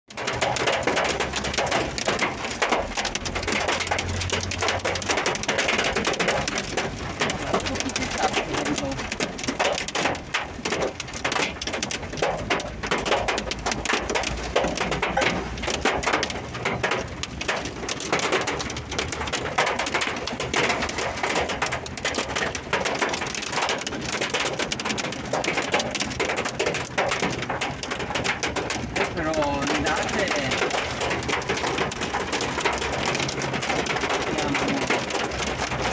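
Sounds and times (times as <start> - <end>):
rain and hail drumming on car roof: 0.1 - 35.9.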